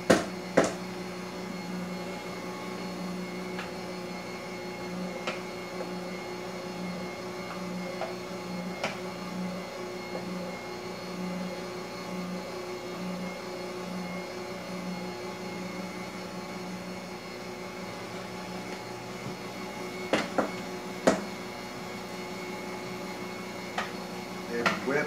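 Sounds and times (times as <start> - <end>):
stand mixer motor humming: 0.0 - 25.0.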